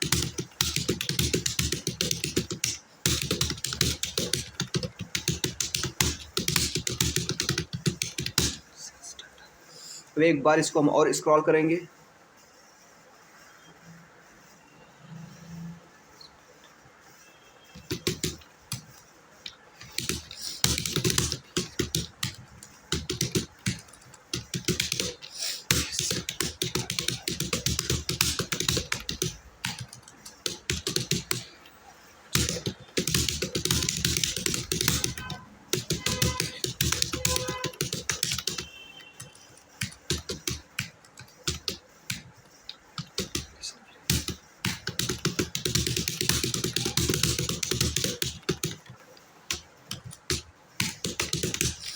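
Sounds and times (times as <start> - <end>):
fast keyboard typing: 0.0 - 9.3, 15.3 - 51.9.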